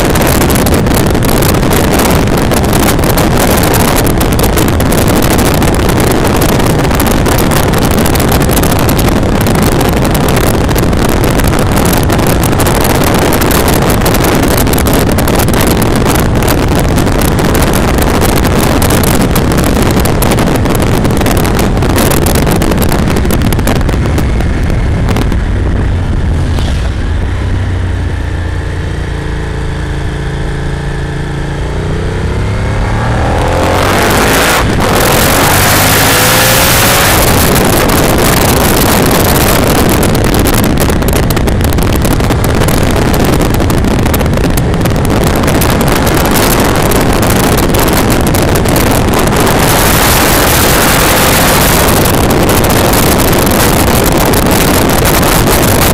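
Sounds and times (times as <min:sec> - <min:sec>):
motorcycle engine: 0:00.0 - 0:55.9
wind rushing over microphone: 0:00.0 - 0:55.9.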